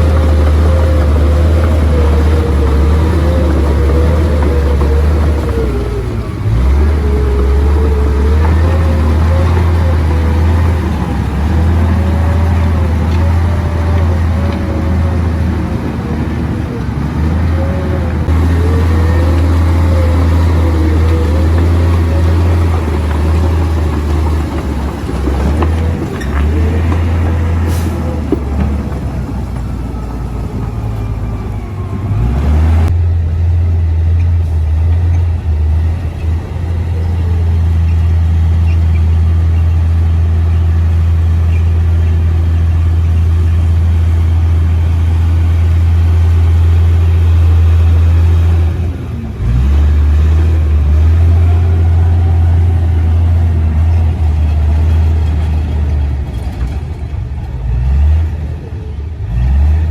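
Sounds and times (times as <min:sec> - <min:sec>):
bulldozer diesel engine running: 0:00.0 - 0:59.9
engine whine: 0:00.0 - 0:59.9.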